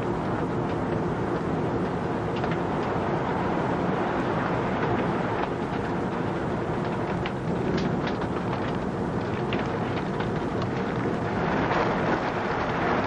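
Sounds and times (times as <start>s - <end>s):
rain ticking on window glass: 0.0s - 13.0s
violent winds blowing: 0.0s - 13.0s.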